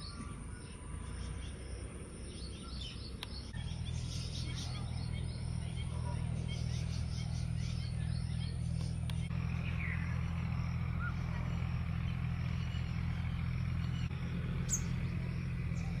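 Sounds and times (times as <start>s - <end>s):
faint bird chirps: 0.0s - 16.0s
steady low drone: 0.0s - 16.0s.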